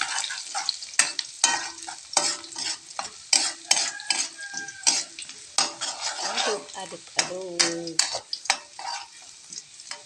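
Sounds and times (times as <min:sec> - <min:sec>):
shallots sizzling in hot oil: 0:00.0 - 0:10.0
spatula scraping a wok: 0:00.0 - 0:10.0.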